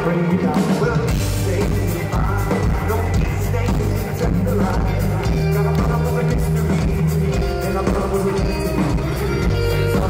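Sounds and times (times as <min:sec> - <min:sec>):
person singing: 0:00.0 - 0:10.0
rock band playing live: 0:00.0 - 0:10.0
drum beat: 0:00.4 - 0:10.0.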